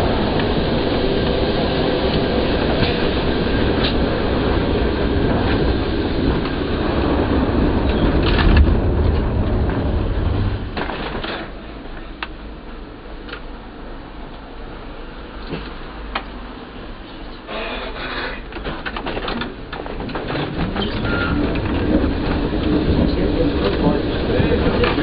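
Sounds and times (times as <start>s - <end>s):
tram clicks and knocks: 0.0s - 12.5s, 13.2s - 13.6s, 15.4s - 16.4s, 17.1s - 25.0s
tram wheels rumbling on track: 0.0s - 25.0s.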